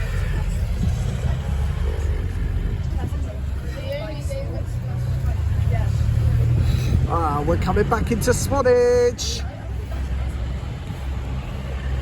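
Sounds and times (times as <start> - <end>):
bus diesel engine rumble: 0.0 - 12.0
road noise: 0.0 - 12.0.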